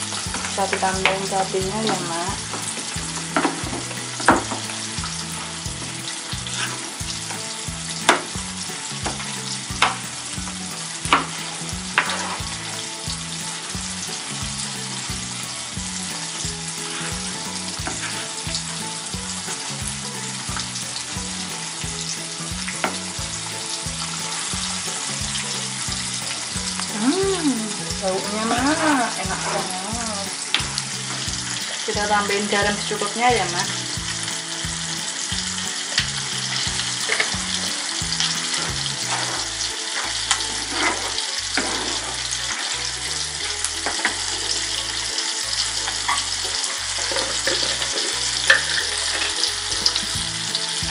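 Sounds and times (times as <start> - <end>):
sauce sizzling in a frying pan: 0.0 - 50.9.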